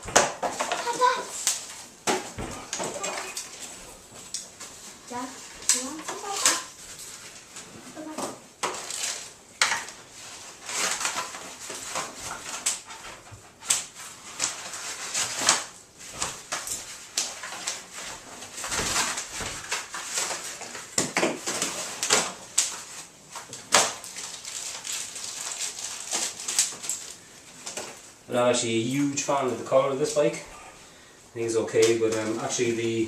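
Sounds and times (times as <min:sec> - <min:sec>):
bubble wrap popping: 0:00.0 - 0:12.9, 0:13.6 - 0:28.0
plastic packaging rustling: 0:00.0 - 0:30.4, 0:31.0 - 0:33.0.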